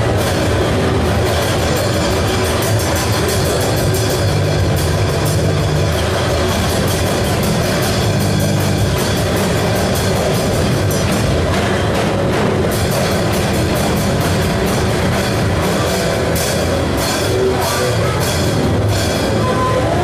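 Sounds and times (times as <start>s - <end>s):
distorted noise music: 0.0s - 20.0s
rapid drum hits: 0.0s - 20.0s.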